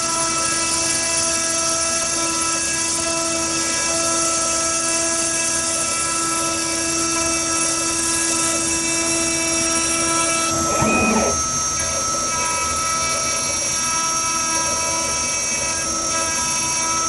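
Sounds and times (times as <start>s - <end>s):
spindle motor whine: 0.0s - 17.0s.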